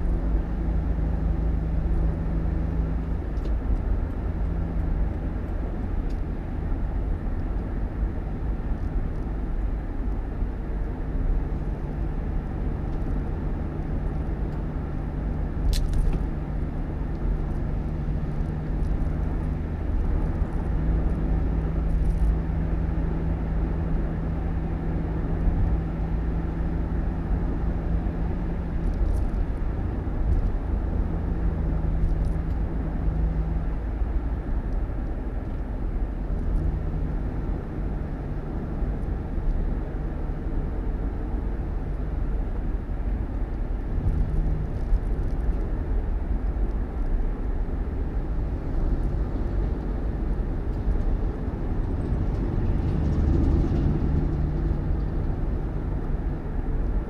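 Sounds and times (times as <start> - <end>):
motor vehicle engine running: 0.0 - 57.0.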